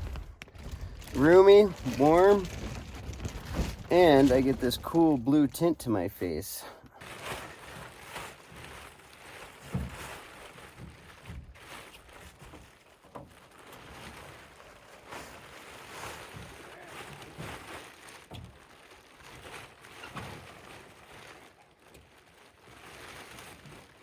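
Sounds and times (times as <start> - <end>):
plastic tarp crinkling: 0.0 - 24.0.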